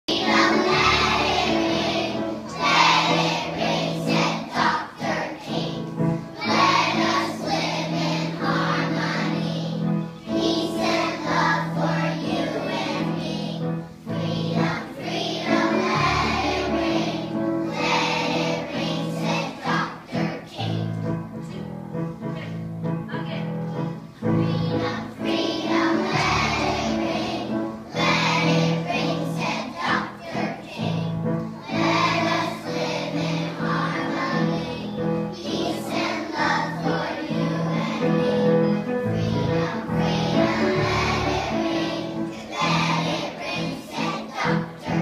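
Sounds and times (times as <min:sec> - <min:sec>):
children's choir singing: 0:00.1 - 0:21.5, 0:23.9 - 0:45.0
instrumental accompaniment: 0:00.1 - 0:45.0.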